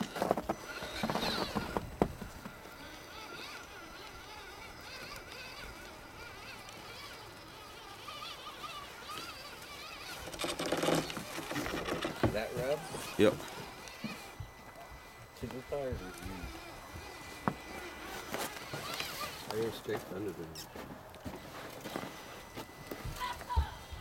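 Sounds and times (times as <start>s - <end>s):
toy car motor and gears whining: 0.0s - 24.0s.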